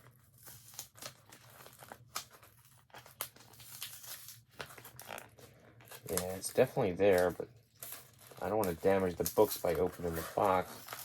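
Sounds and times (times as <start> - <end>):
cardboard tearing and crinkling: 0.0 - 11.0.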